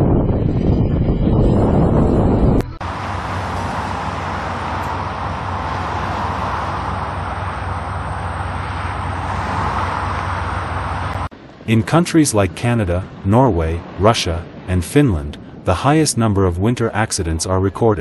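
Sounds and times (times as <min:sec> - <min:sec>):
loud low rumble: 0:00.0 - 0:15.7
steady rushing hiss: 0:02.8 - 0:18.0.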